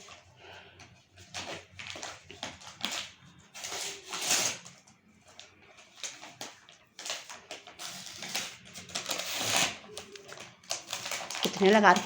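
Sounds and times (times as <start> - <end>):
packaging rustling and tearing: 1.2 - 12.0.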